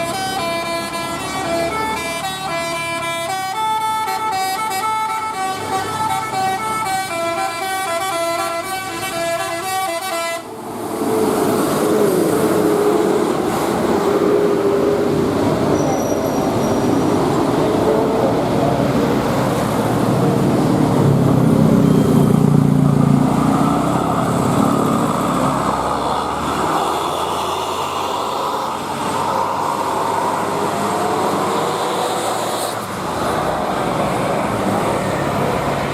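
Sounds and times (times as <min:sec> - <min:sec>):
traffic noise: 0:00.0 - 0:35.9
tyre and road noise: 0:00.0 - 0:35.9.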